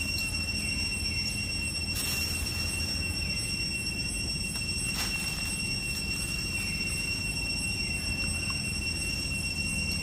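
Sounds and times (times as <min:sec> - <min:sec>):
steady high-pitched whine: 0:00.0 - 0:10.0
dry leaves rustling: 0:01.1 - 0:09.3.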